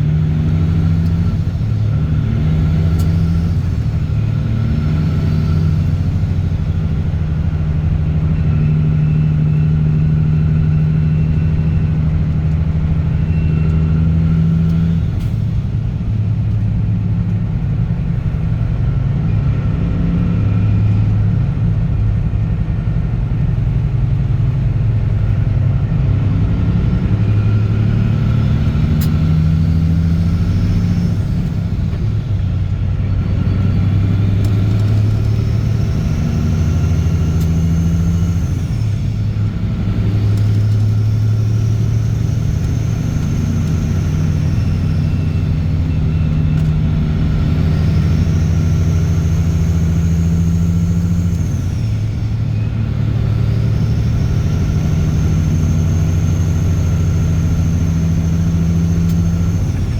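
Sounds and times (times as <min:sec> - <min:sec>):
diesel truck engine exhaust drone: 0:00.0 - 0:59.9.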